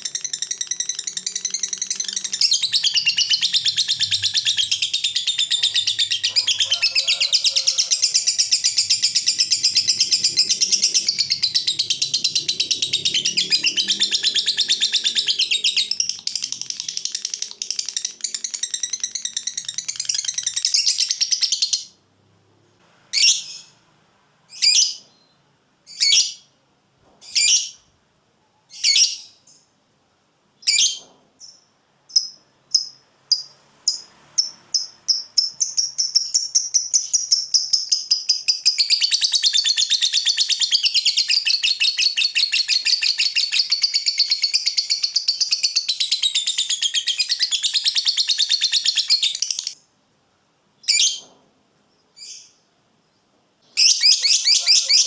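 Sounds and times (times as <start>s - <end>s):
lovebird chirping and trilling: 0.0s - 21.9s, 23.2s - 23.8s, 24.5s - 25.3s, 25.9s - 26.5s, 27.2s - 27.8s, 28.7s - 29.6s, 30.6s - 49.8s, 50.8s - 51.4s, 52.2s - 52.6s, 53.7s - 55.0s.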